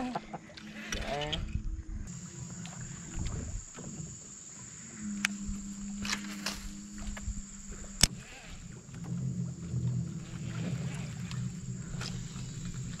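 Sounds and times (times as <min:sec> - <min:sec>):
insects buzzing: 0:00.0 - 0:13.0
low steady hum: 0:00.0 - 0:13.0.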